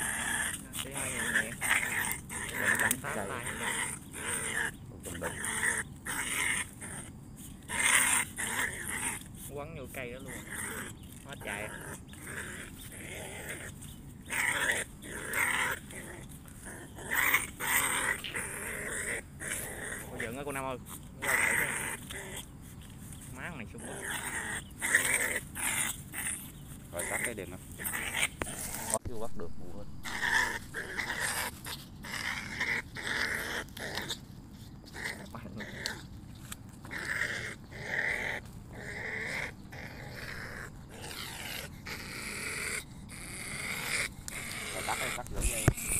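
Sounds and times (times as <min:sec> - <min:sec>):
animal shrill growling calls: 0:00.0 - 0:22.5, 0:23.4 - 0:29.0, 0:29.7 - 0:34.2, 0:36.8 - 0:45.9.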